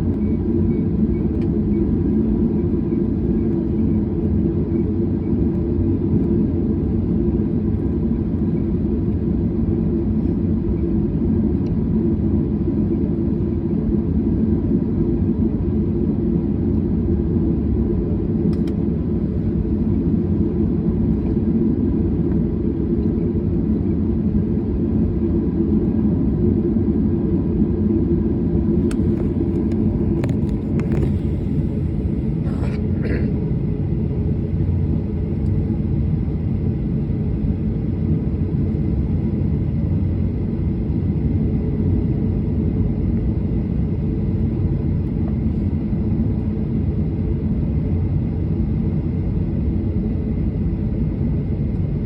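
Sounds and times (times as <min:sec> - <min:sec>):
airliner cabin drone: 0:00.0 - 0:52.0.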